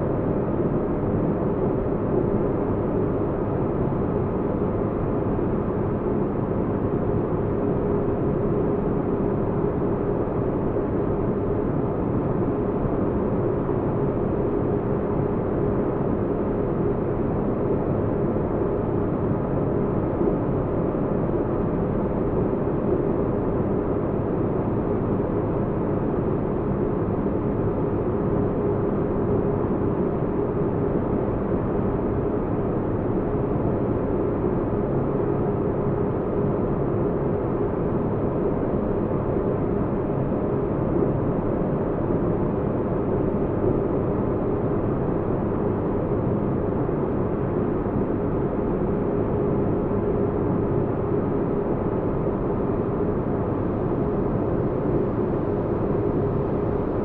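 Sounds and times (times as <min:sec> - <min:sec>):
faint constant hum: 0:00.0 - 0:57.0.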